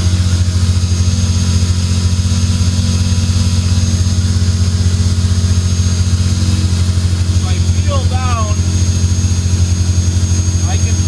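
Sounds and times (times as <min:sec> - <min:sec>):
car engine idling: 0:00.0 - 0:11.0
high-pitched air pump whine: 0:00.0 - 0:11.0.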